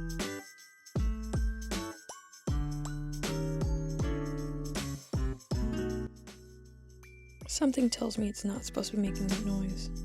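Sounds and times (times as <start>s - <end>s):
bell-like music over bass: 0.0s - 0.2s, 1.0s - 1.9s, 2.5s - 10.0s.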